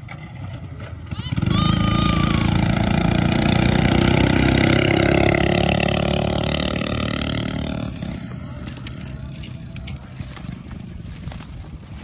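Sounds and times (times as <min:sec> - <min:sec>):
mini bike engine revving hard: 0:00.0 - 0:11.4.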